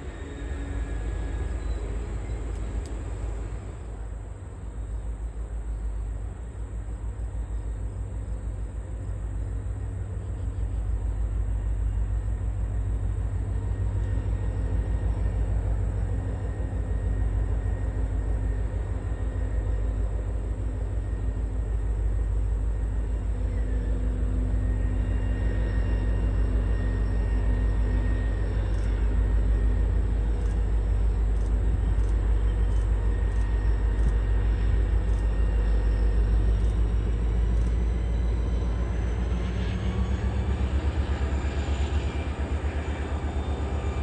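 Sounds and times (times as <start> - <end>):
diesel locomotive engine: 0.0 - 44.0.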